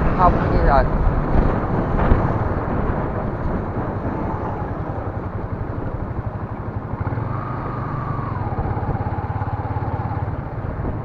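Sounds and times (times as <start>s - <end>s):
moving vehicle rumble: 0.0s - 11.0s
road and wind noise: 0.0s - 11.0s.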